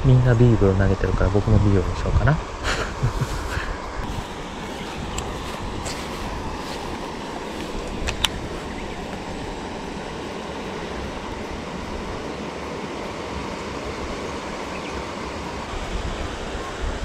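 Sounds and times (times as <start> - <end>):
wind rumbling on microphone: 0.0 - 17.0
water rushing over a weir: 0.5 - 17.0.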